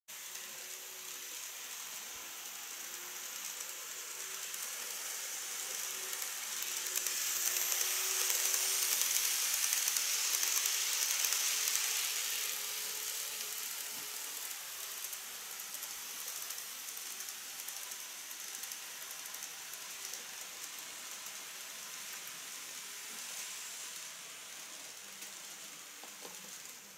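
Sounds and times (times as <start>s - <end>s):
model train rattling on track: 0.1s - 26.9s.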